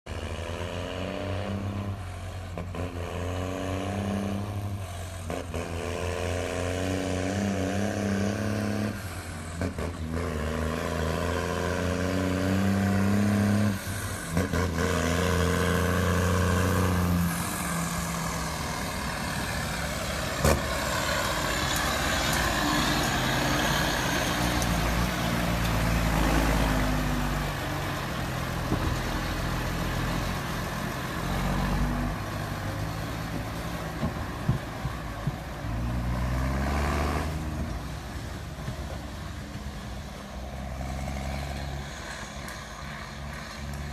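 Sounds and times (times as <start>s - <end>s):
tractor diesel engines revving: 0.1s - 43.9s
loud rushing engine: 3.4s - 43.9s.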